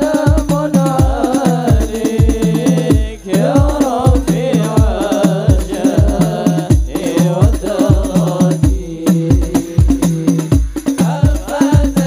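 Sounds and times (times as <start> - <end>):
deep drum beating: 0.0 - 12.0
frame drums: 0.0 - 12.0
men chanting through microphones: 0.0 - 12.0.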